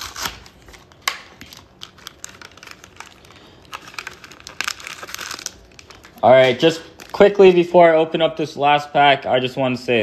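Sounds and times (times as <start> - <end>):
wrapper crinkling: 0.0 - 8.1.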